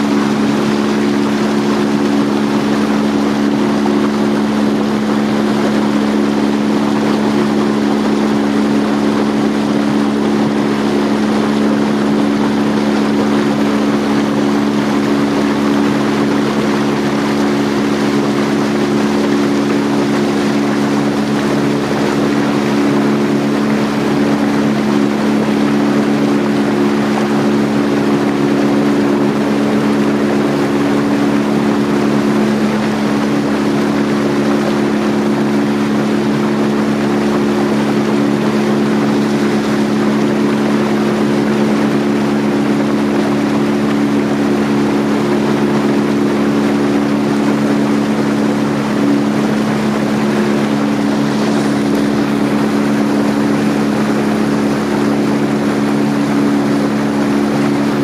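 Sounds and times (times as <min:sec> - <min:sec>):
boat motor humming: 0:00.0 - 0:58.0
rushing water and wind: 0:00.0 - 0:58.0.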